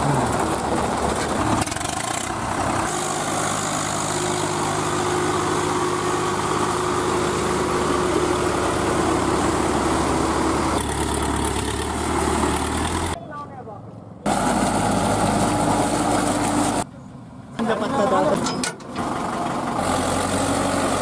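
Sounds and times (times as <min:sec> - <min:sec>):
diesel tractor engines running: 0:00.0 - 0:21.0.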